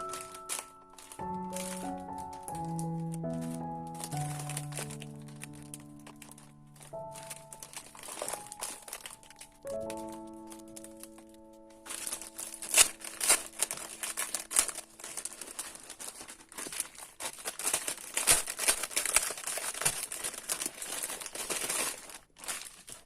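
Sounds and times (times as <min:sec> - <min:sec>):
packaging wrapper crinkling: 0:00.0 - 0:23.0.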